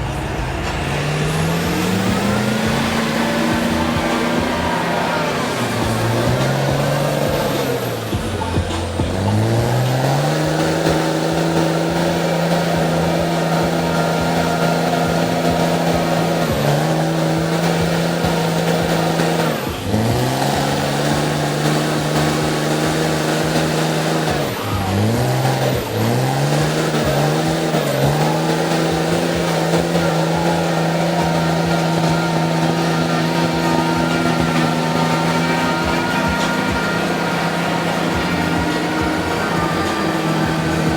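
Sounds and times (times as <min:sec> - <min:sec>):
haze of noise: 0:00.0 - 0:40.9
truck engine at high revs: 0:00.0 - 0:40.9.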